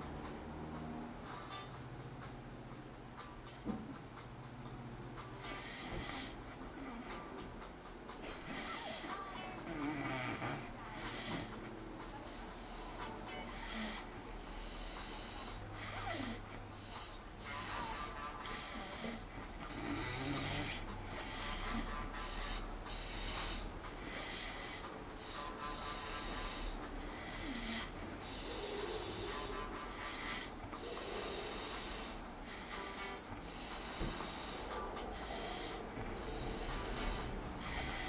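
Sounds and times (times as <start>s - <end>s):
man snoring: 5.4s - 7.5s, 8.2s - 38.0s.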